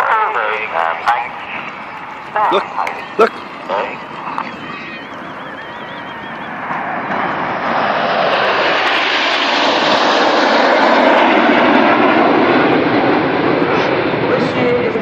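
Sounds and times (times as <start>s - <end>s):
jets flying past: 0.0s - 15.0s.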